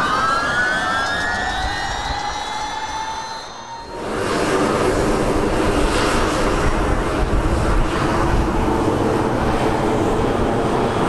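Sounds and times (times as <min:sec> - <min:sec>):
tiltrotor aircraft drone overhead: 0:00.0 - 0:11.0.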